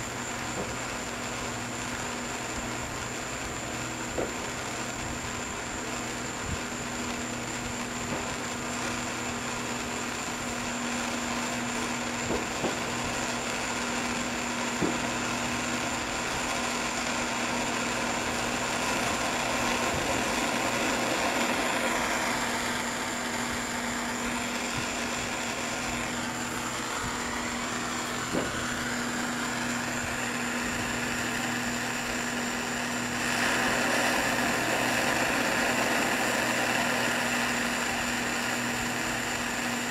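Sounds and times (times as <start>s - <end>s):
constant low hum: 0.0s - 39.9s.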